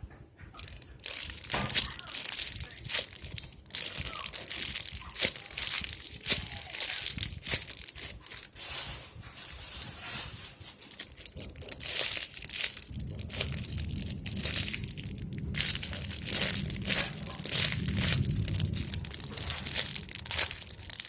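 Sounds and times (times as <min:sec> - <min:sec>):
craft materials crinkling and rustling: 0:00.0 - 0:21.0
sharp crackles: 0:00.5 - 0:21.0.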